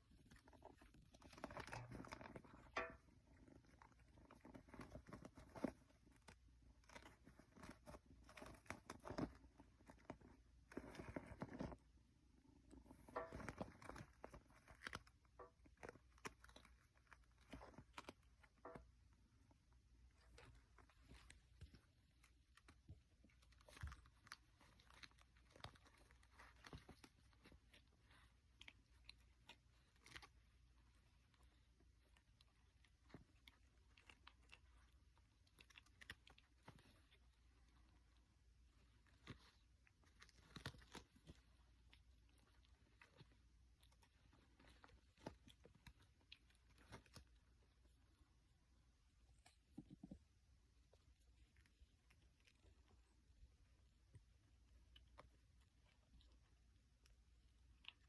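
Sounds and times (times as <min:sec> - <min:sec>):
kittens pattering paws and rustling: 0:00.0 - 0:58.0
low room hum: 0:00.0 - 0:58.0.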